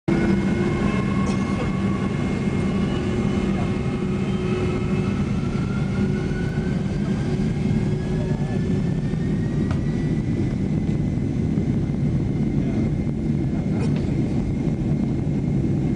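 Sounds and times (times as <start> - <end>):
jet engine whine rising: 0.1 - 15.9
jet engines rumbling: 0.1 - 15.9.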